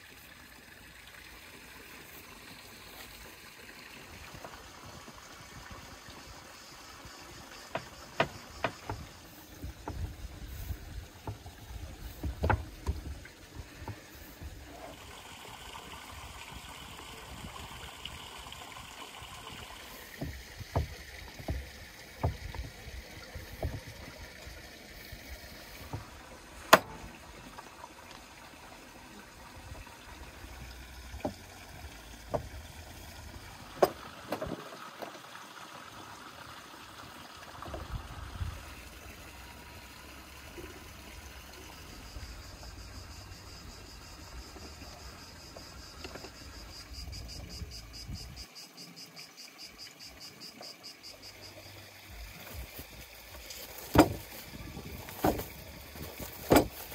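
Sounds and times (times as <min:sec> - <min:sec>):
low outdoor background: 0:00.0 - 0:56.9.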